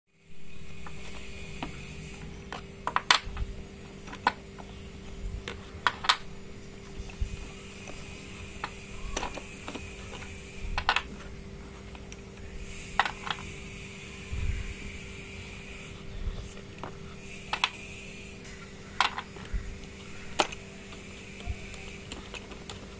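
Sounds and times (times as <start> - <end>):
steady low hum: 0.1 - 22.9.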